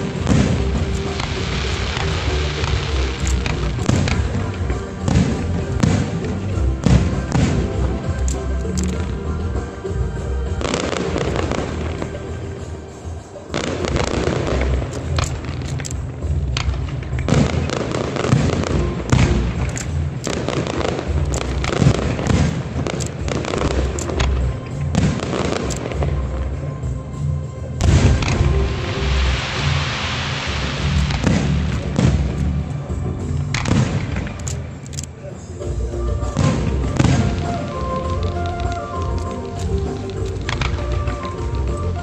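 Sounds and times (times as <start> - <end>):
fireworks bangs and crackles: 0.0 - 42.0
music: 0.0 - 42.0.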